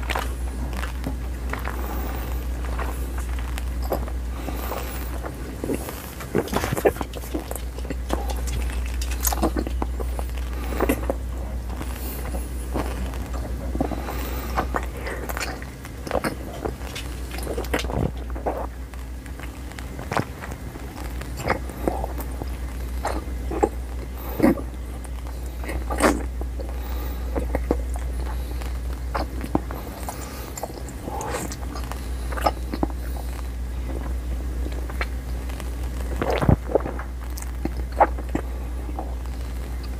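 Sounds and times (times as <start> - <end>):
chewing gum wet clicks and smacks: 0.0 - 39.9
steady low hum: 0.0 - 39.9.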